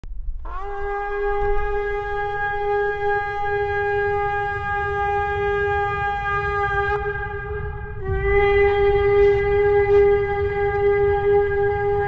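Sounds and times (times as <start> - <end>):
low rumble: 0.0 - 12.0
long horn blast: 0.4 - 12.0.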